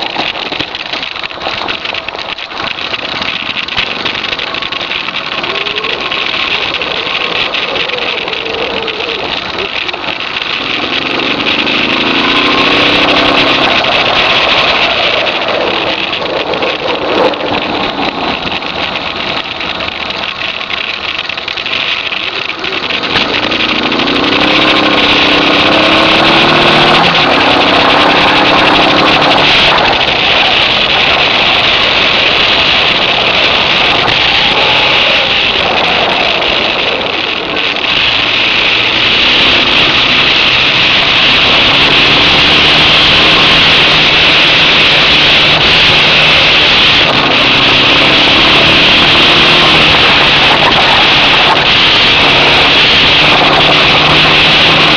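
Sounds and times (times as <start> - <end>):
motorcycle engine accelerating: 0.0 - 54.9
wind noise on microphone: 0.0 - 54.9.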